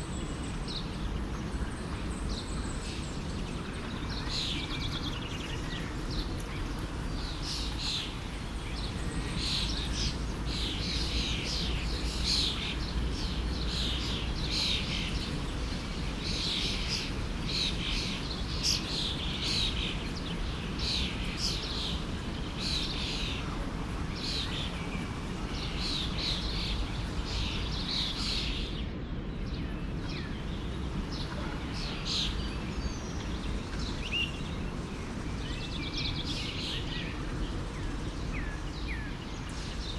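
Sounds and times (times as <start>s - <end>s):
small birds chirping and singing: 0.0s - 39.9s
forest stream rushing: 7.0s - 28.8s, 29.5s - 39.9s.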